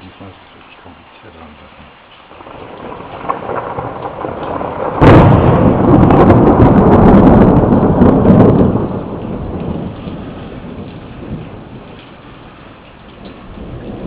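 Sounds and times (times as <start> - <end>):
light rain: 0.0 - 14.0
thunder crack and rumble: 2.2 - 14.0.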